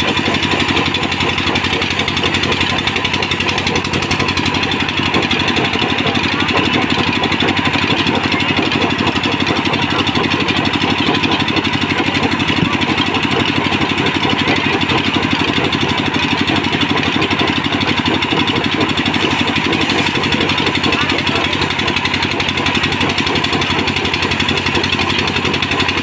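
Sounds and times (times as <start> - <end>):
band saw cutting logs: 0.0 - 26.0.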